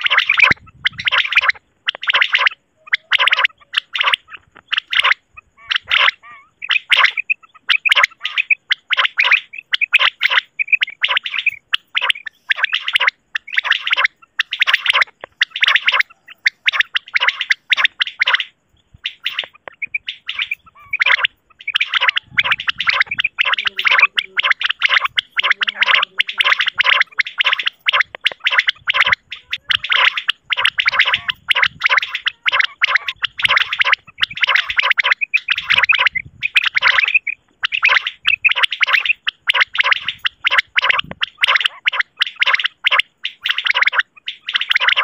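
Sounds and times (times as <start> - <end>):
quail calls: 0.0 - 45.0.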